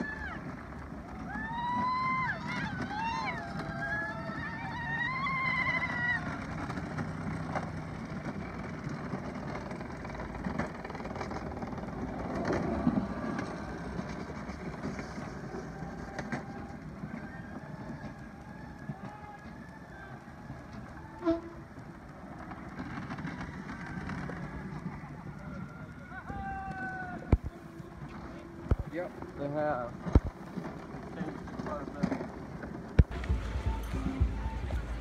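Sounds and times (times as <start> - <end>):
cart wheels rumbling on concrete: 0.0 - 35.0.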